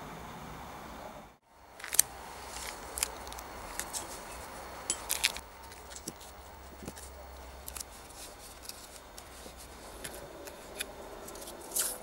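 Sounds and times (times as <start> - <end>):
background hiss: 0.0 - 12.0
masking tape crackling: 1.6 - 12.0.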